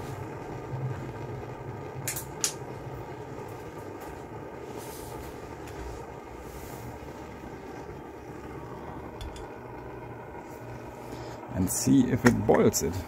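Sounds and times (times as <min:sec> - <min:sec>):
camping stove flame rushing: 0:00.0 - 0:13.0.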